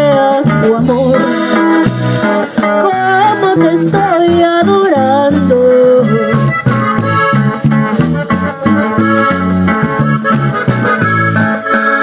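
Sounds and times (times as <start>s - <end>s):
accordion melody: 0.0s - 12.0s
steady bass rhythm: 0.0s - 12.0s.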